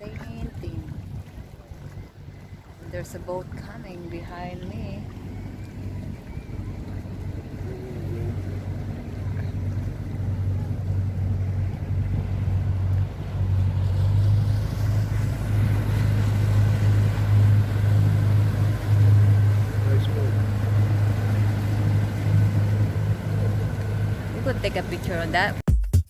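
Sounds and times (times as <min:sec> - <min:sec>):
motorboat engine humming: 0:00.0 - 0:25.6.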